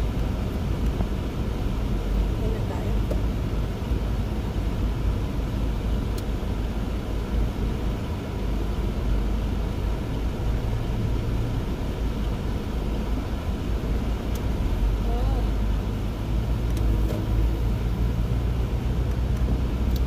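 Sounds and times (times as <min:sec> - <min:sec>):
car engine rumble inside cabin: 0:00.0 - 0:20.0.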